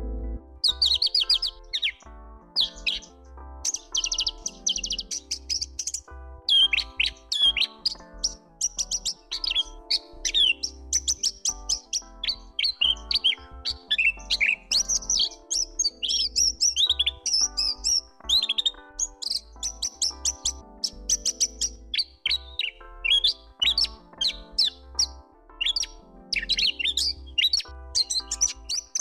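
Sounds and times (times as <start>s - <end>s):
soft background music: 0.0s - 29.0s
bird singing rapid trills: 0.6s - 29.0s.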